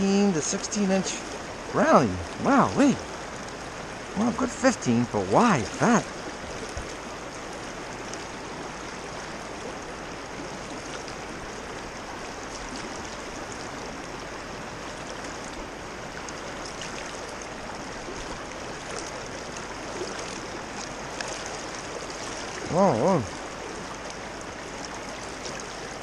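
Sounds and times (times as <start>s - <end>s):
flowing river water: 0.0s - 26.0s.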